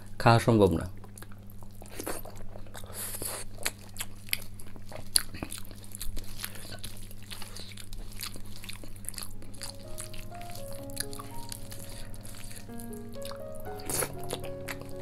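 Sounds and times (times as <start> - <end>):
chewing and lip-smacking: 1.0 - 14.9.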